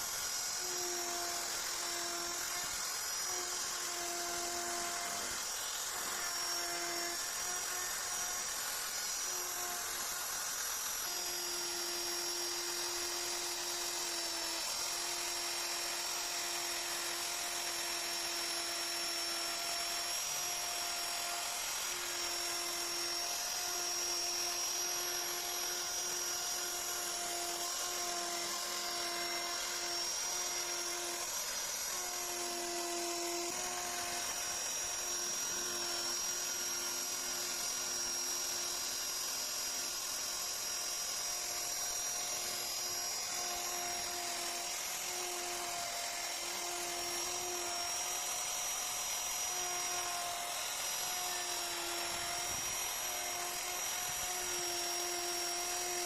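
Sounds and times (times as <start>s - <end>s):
power tool high whine: 0.0s - 56.0s.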